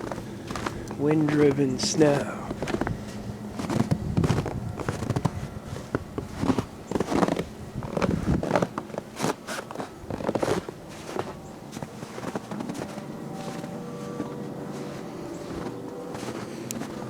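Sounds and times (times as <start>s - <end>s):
boots crunching through snow: 0.0s - 17.0s.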